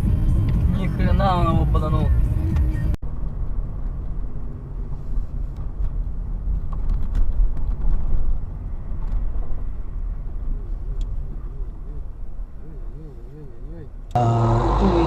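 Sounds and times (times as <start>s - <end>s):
vehicle road and engine rumble: 0.0s - 15.0s.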